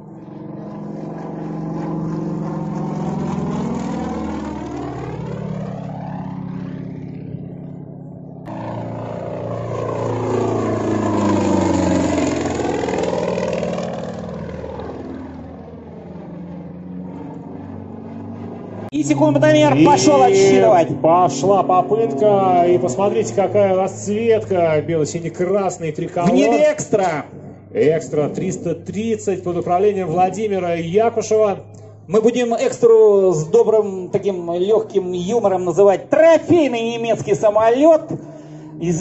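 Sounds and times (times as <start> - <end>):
propeller plane flying past: 0.0 - 39.0.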